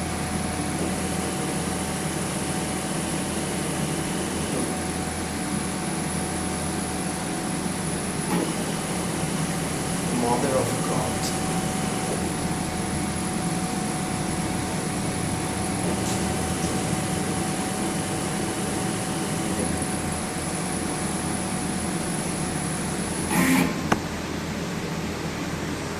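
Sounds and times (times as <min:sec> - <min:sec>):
cnc machine humming and whining: 0:00.0 - 0:25.9.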